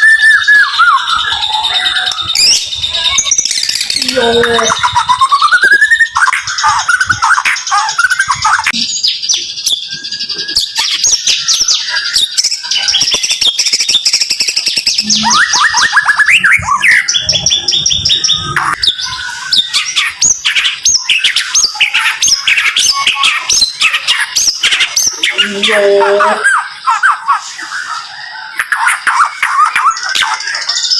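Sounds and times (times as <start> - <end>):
bird singing rapid song: 0.0 - 30.9.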